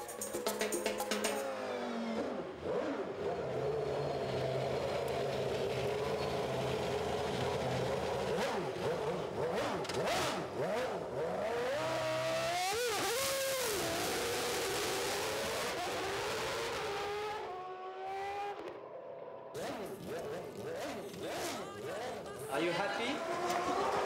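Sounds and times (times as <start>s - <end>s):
racing car engine revving: 1.4s - 18.8s, 19.5s - 24.0s.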